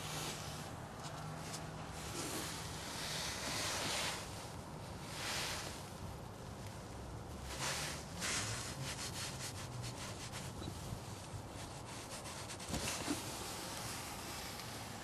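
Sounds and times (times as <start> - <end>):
rubbing and scraping handling noise: 0.0 - 5.9, 7.4 - 15.0.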